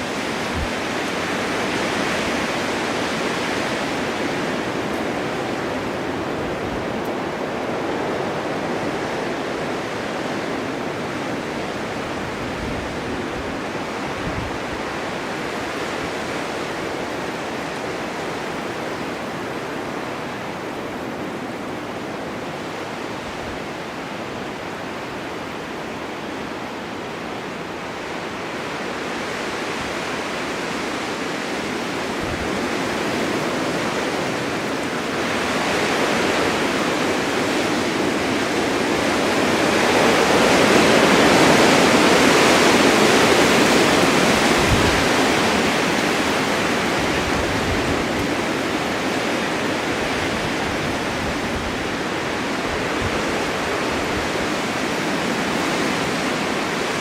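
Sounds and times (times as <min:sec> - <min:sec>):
blizzard wind rushing: 0:00.0 - 0:57.0.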